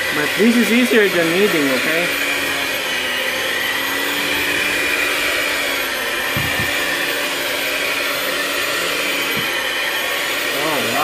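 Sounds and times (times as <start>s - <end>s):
hand mixer motor whirring: 0.0s - 11.0s.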